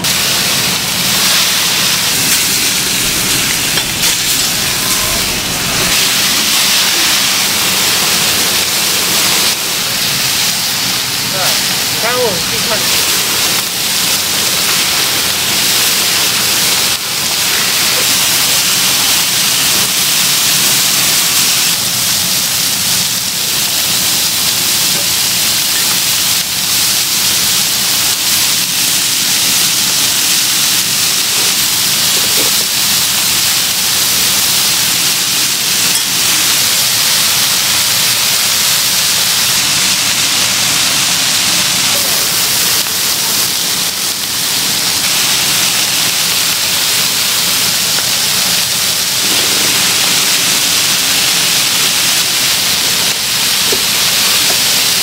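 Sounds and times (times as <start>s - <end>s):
food sizzling on a griddle: 0.0s - 55.0s.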